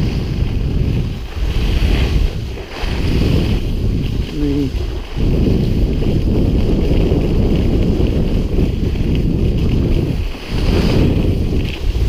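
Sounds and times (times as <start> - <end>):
skis sliding over snow: 0.0 - 12.0
wind buffeting microphone: 0.0 - 12.0.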